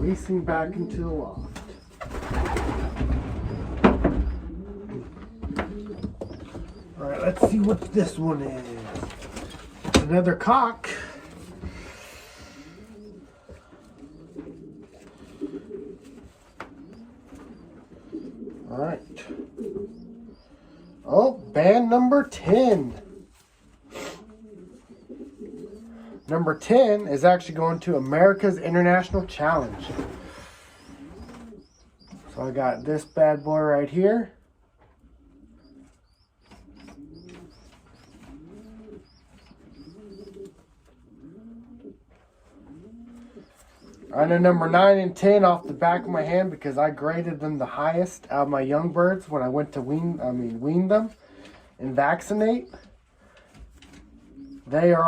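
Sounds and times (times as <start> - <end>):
pigeons cooing: 0.0 - 10.0, 10.8 - 55.0.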